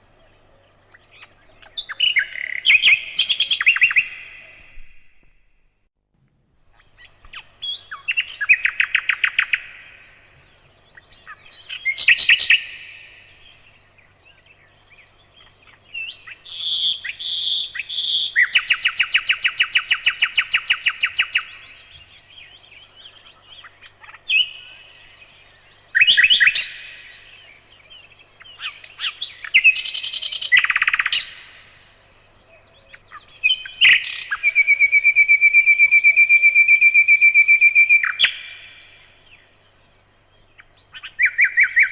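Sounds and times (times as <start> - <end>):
nightingale singing: 0.0 - 5.5, 6.6 - 41.9.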